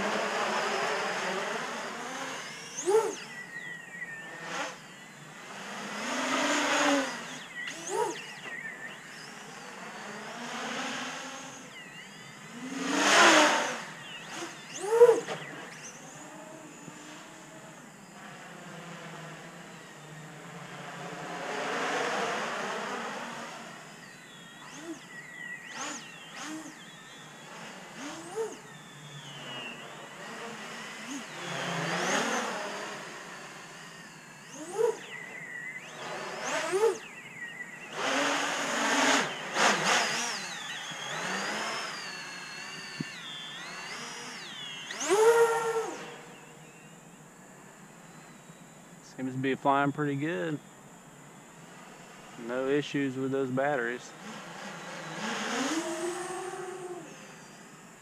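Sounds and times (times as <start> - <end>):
drone motors whining: 0.0 - 58.0.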